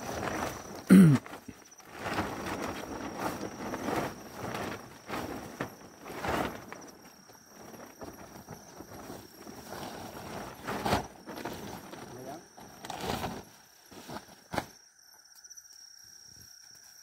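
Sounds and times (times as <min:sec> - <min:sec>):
plastic tarpaulin rustling: 0:00.0 - 0:14.8.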